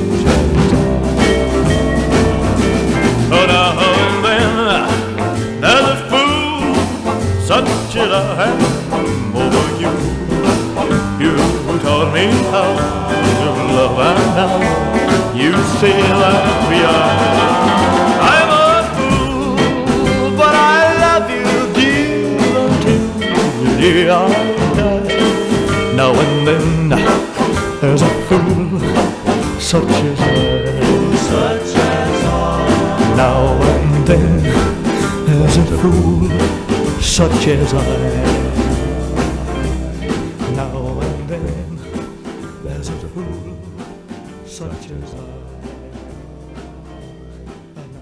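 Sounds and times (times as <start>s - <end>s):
country rock ballad instrumental: 0.0s - 48.0s.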